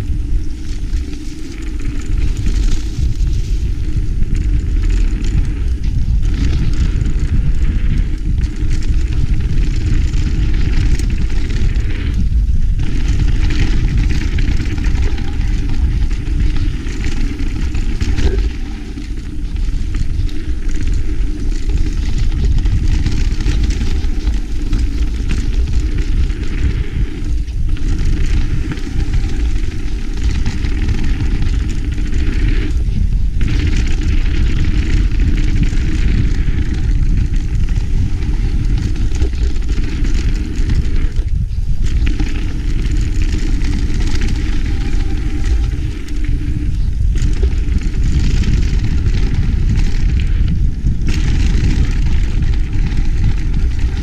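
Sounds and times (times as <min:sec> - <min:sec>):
tyres rolling over gravel: 0:00.0 - 0:54.0
wind buffeting microphone: 0:00.0 - 0:54.0.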